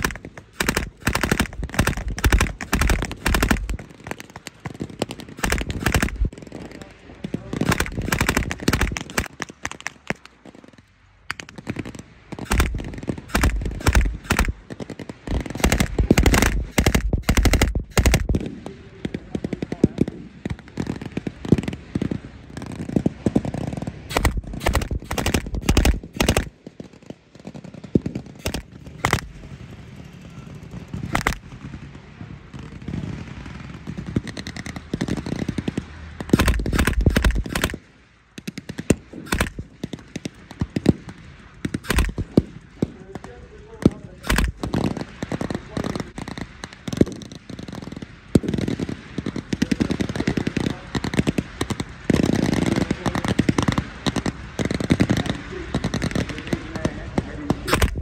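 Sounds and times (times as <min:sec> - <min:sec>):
single rifle shots: 0:00.0 - 0:20.1, 0:24.1 - 0:26.9, 0:28.1 - 0:29.6, 0:31.1 - 0:31.7, 0:34.2 - 0:58.0
machine-gun fire bursts: 0:00.0 - 0:58.0.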